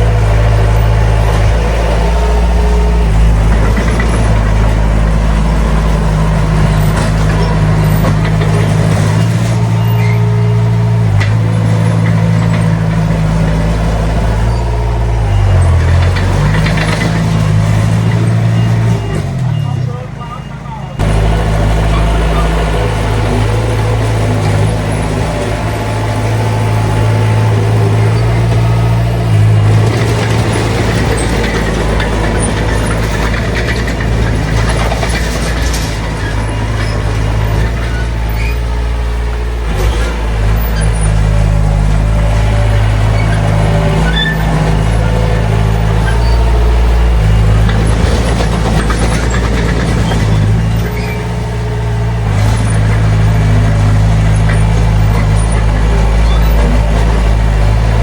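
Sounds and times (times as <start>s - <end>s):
machinery clanks: 0.0s - 20.3s, 20.9s - 58.0s
diesel engine droning under load: 0.0s - 58.0s.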